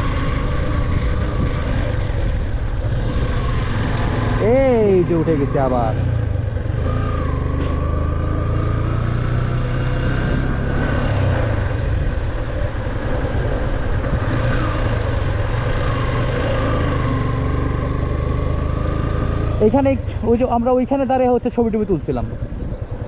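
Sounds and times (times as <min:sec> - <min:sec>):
wind rumbling on microphone: 0:00.0 - 0:07.5, 0:08.7 - 0:19.7, 0:20.3 - 0:23.0
motorcycle engine running: 0:00.0 - 0:23.0.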